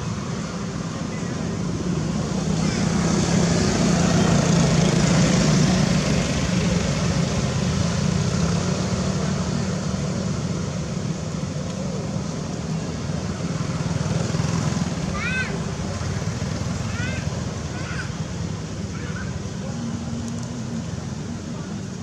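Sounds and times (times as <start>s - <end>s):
outdoor noise: 0.0s - 22.0s
steady engine drone: 0.0s - 22.0s.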